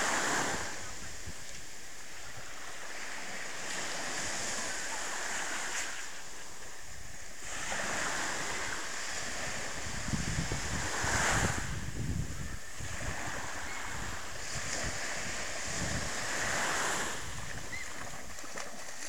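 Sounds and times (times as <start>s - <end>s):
small waves washing onto beach: 0.0s - 19.0s.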